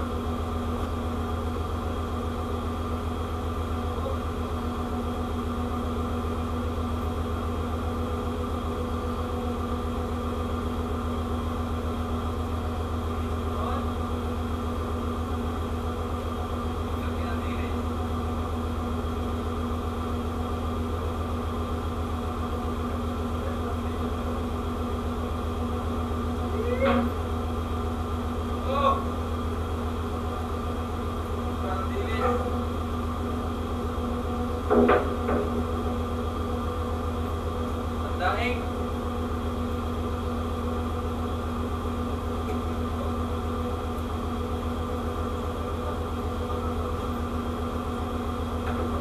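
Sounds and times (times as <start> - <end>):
ship machinery drone: 0.0 - 49.0.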